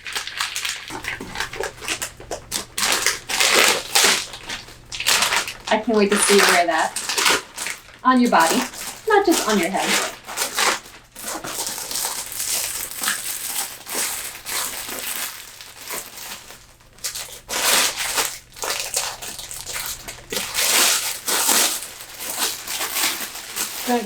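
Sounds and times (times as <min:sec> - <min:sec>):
packaging crinkling and rustling: 0:00.0 - 0:24.0.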